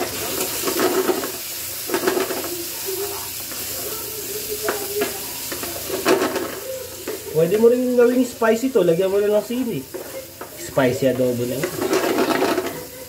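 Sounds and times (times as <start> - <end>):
spatula scraping a pan: 0.0 - 3.8, 4.6 - 8.7, 9.4 - 13.0
meat sizzling in a frying pan: 0.0 - 13.0.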